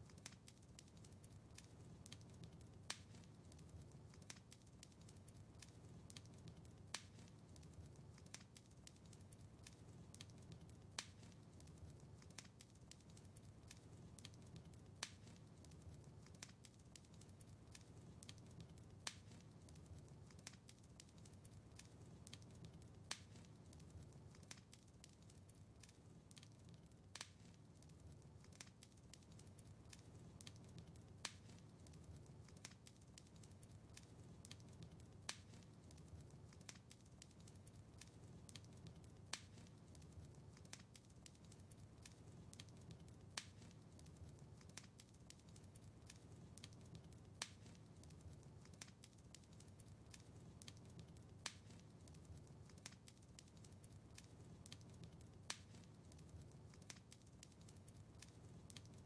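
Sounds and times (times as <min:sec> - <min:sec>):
low rumble of flame: 0:00.0 - 0:59.0
wood fire crackling softly: 0:00.0 - 0:59.0.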